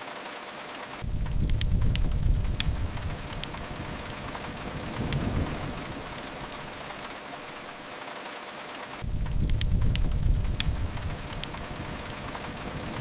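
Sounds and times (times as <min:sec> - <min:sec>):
steady rain hissing: 0:00.0 - 0:13.0
wood fire crackling: 0:00.0 - 0:13.0
low rumble: 0:01.0 - 0:07.7, 0:09.0 - 0:13.0.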